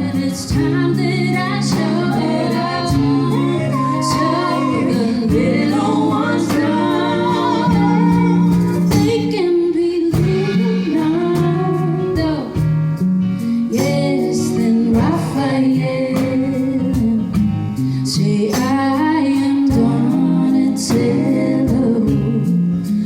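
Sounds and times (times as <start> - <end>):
instrumental backing: 0.0 - 23.0
woman singing pop song: 0.0 - 23.0.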